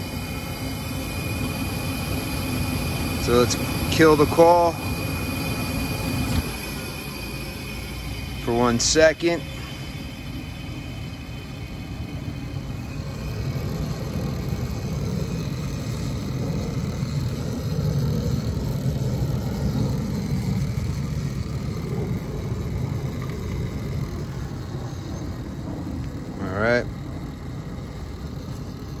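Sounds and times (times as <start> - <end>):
gas heating unit rumbling: 0.0 - 29.0.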